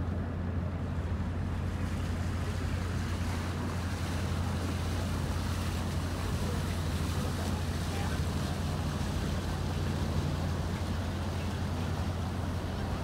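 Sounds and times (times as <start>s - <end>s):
ship engines droning: 0.0s - 13.0s
water noise: 0.0s - 13.0s.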